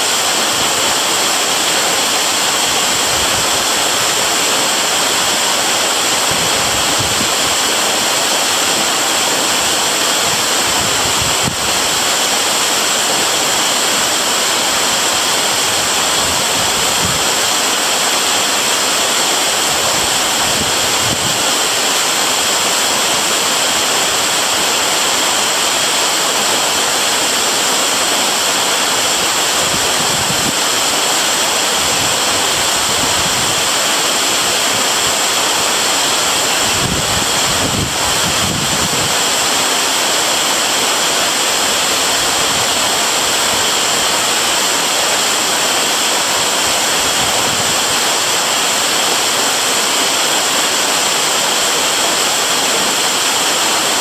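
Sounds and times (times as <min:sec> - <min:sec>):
low wind gusts: 0:00.0 - 0:54.0
waterfall roaring: 0:00.0 - 0:54.0.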